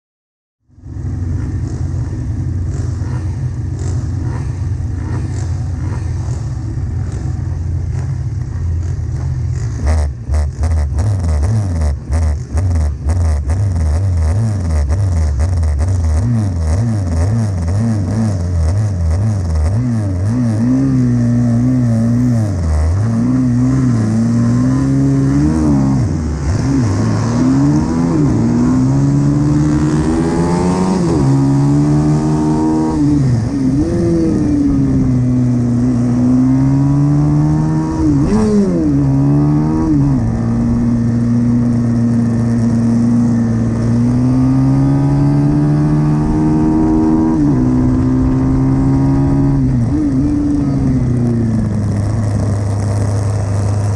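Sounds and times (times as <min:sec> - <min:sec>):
pit bike engines racing: 0:00.8 - 0:53.9.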